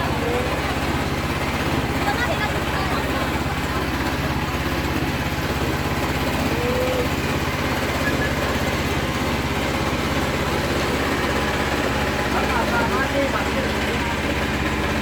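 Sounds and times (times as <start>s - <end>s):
engine running with fast pulse: 0.0s - 15.0s.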